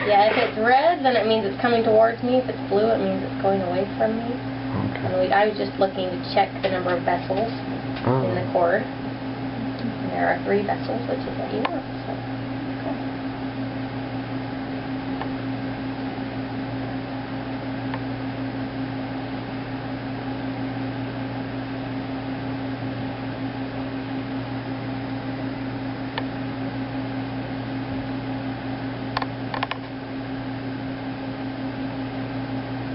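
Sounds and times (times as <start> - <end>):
machine hum and fan noise: 0.0 - 32.9.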